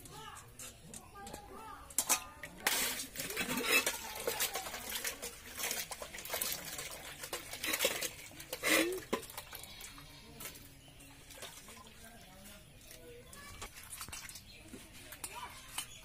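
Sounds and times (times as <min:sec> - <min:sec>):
water splashing in a bucket: 0:01.9 - 0:16.0.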